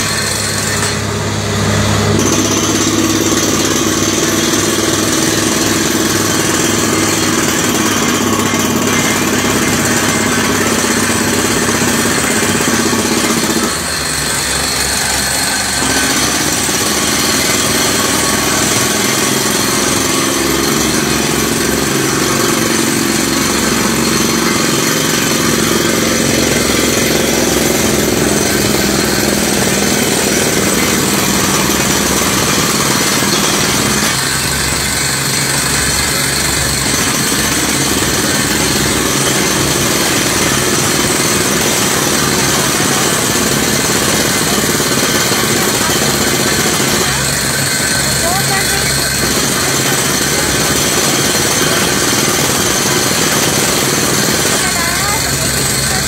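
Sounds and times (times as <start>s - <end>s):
air compressor running: 0.0s - 56.0s
drilling rig engine: 0.0s - 56.0s.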